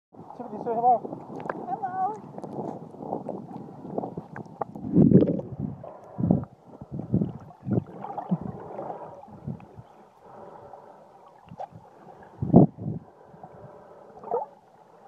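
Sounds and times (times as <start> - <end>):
muffled underwater sloshing: 0.2 - 15.0.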